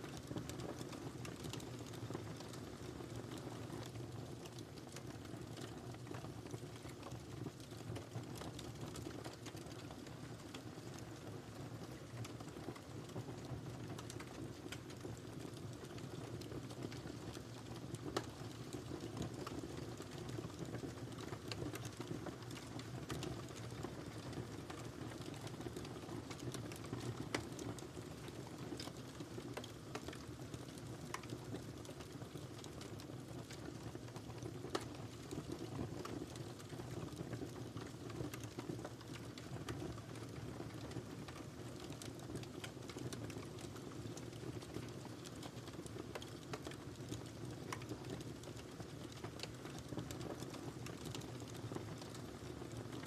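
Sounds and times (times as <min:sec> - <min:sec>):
fire crackling and popping: 0:00.0 - 0:53.0
low fire rumble: 0:00.1 - 0:53.0.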